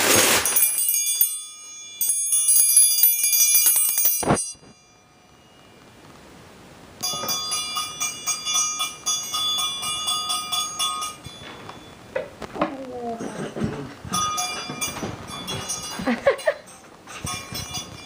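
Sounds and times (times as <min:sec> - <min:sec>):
triangle ringing: 0:00.4 - 0:05.8, 0:07.0 - 0:12.2, 0:14.1 - 0:18.0.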